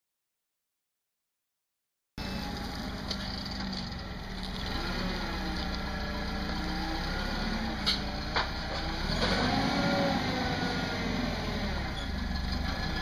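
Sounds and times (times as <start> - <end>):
forklift engine running: 2.2 - 13.0.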